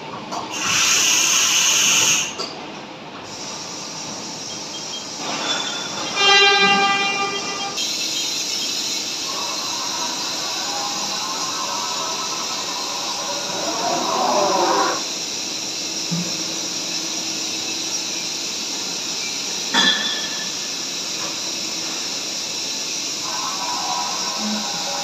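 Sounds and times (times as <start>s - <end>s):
machining center hissing: 0.5s - 2.4s, 3.2s - 25.0s.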